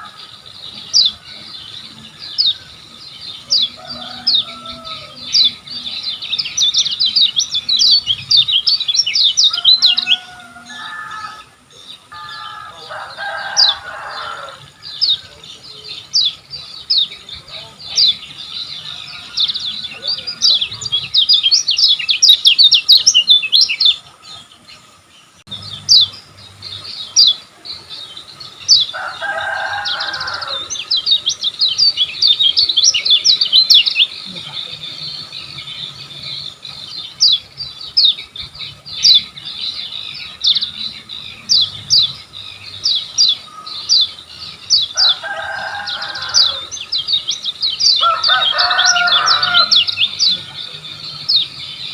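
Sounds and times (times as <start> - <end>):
songbirds chirping: 0.0 - 51.9.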